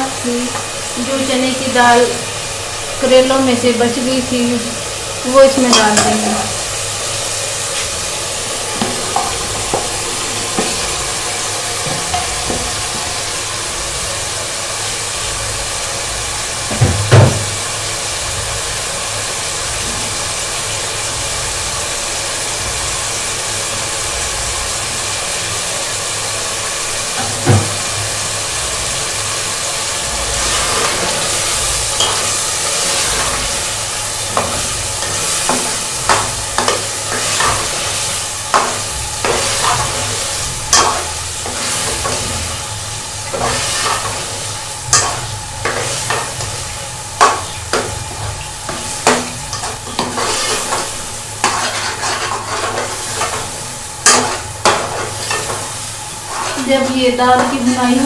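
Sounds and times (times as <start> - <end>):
food sizzling in hot oil: 0.0 - 58.0.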